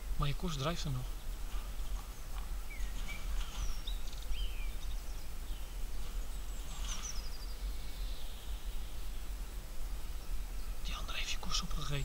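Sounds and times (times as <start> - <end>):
songbirds chirping and whistling: 0.0 - 12.0
steady low rumble: 0.0 - 12.0.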